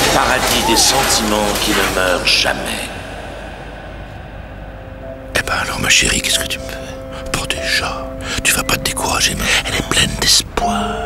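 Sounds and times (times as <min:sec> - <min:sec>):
metro train rumble: 0:00.0 - 0:11.0.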